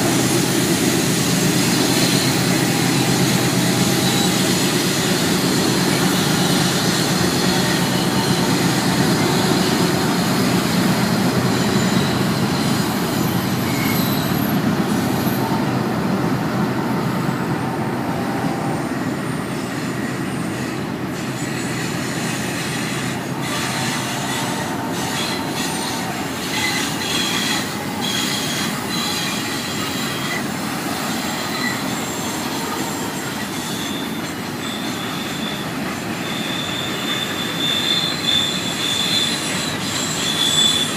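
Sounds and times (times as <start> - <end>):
freight train rumbling past: 0.0 - 40.9
high-pitched wheel squeal: 0.3 - 16.2, 18.2 - 40.9.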